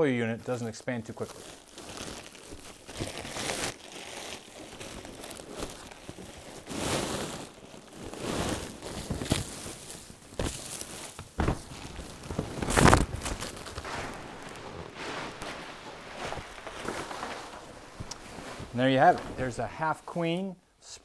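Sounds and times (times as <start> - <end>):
plastic wrapping crinkling: 0.0 - 19.6.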